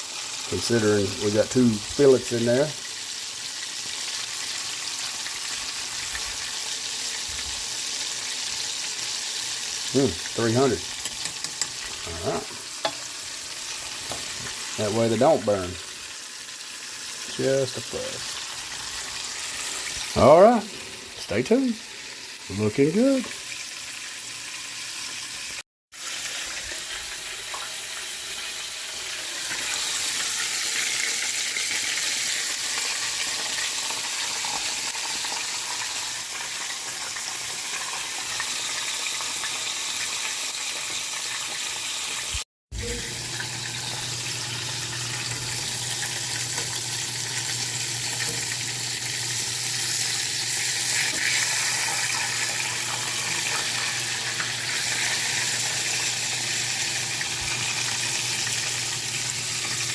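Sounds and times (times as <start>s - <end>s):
fish frying in hot oil: 0.0s - 59.9s.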